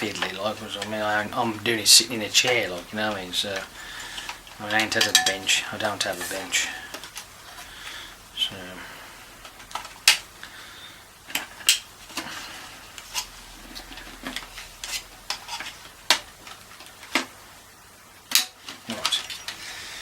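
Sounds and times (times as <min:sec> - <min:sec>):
plastic and metal parts clattering: 0:00.0 - 0:08.0, 0:09.4 - 0:10.3, 0:11.3 - 0:17.4, 0:18.3 - 0:19.8.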